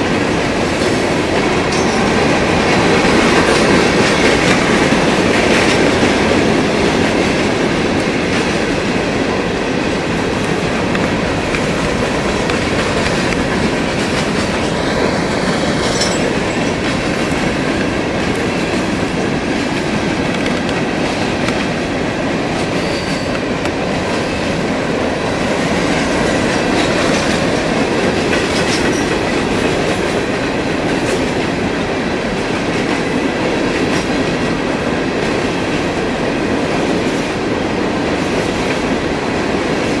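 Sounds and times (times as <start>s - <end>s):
train wheels clacking over rail joints: 0.0s - 40.0s.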